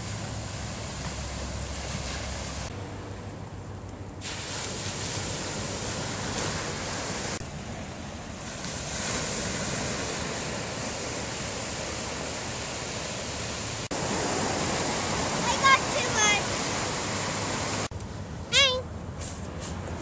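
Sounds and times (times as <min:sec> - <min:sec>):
ocean surf breaking on beach: 0:00.0 - 0:03.0, 0:04.2 - 0:17.9.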